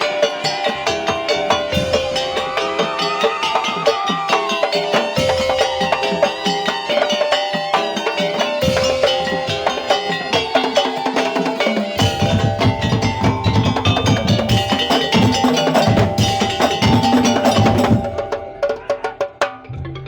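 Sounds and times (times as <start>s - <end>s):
ringing tuned gongs: 0.0s - 19.3s
clattering wooden percussion: 0.0s - 20.0s.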